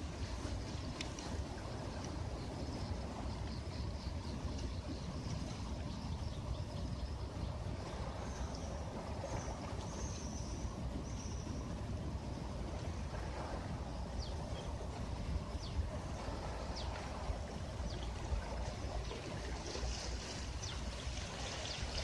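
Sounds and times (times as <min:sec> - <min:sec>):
sea water washing on beach: 0:00.0 - 0:22.0.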